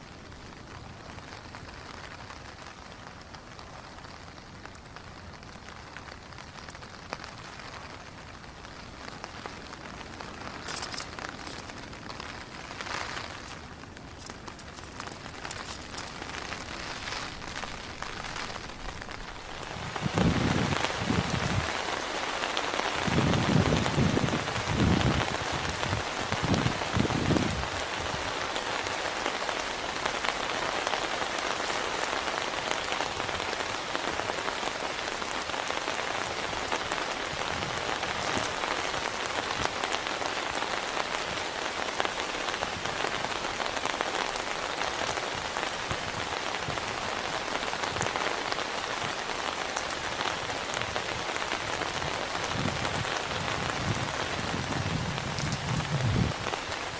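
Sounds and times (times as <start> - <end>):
heavy rain downpour: 0.0 - 56.9.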